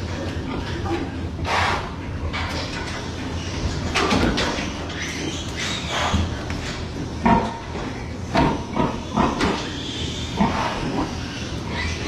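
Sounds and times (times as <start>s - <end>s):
pigs grunting: 0.0s - 12.0s
ventilation fan hum: 0.0s - 12.0s.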